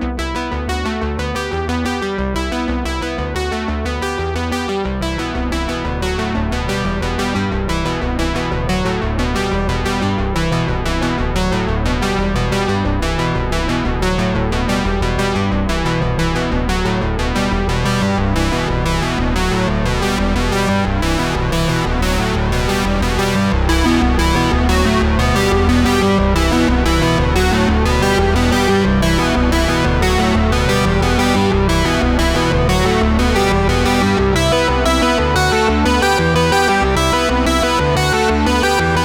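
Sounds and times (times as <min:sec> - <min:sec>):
synthesizer and electric piano music: 0:00.0 - 0:39.0.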